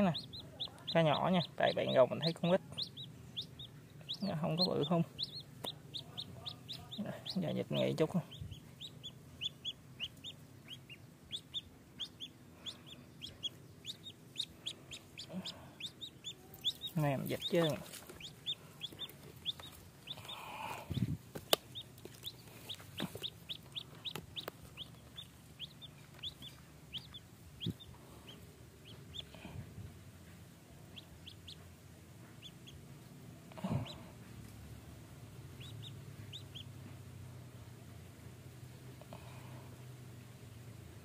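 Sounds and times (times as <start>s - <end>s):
duckling peeping: 0.0s - 32.9s, 33.6s - 34.1s, 35.4s - 37.1s.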